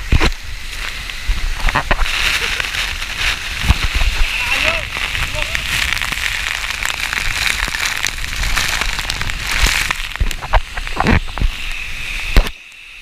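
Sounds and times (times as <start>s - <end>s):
crackling taps: 0.0s - 11.6s
waterfall rushing: 0.0s - 12.5s
pops: 0.0s - 12.6s.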